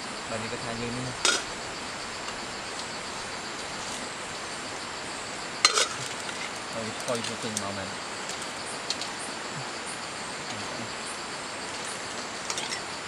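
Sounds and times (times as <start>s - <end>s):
background hiss: 0.0s - 13.0s
faint high insect tone: 0.0s - 13.0s.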